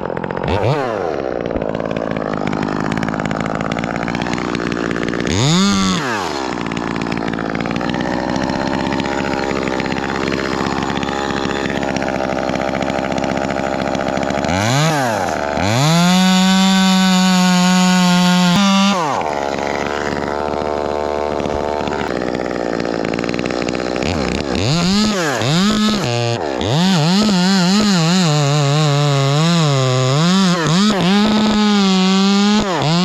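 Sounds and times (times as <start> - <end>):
chainsaw idling and revving: 0.0 - 33.0.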